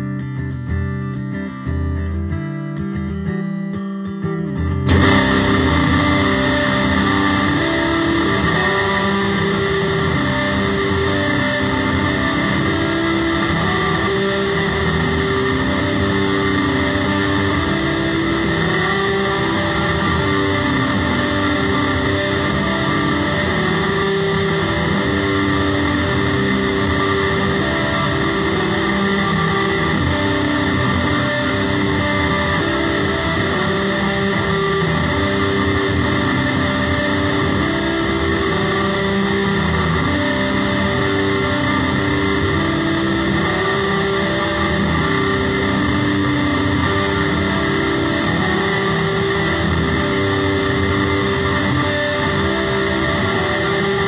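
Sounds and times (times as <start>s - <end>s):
distorted electric guitar: 0.0s - 54.0s.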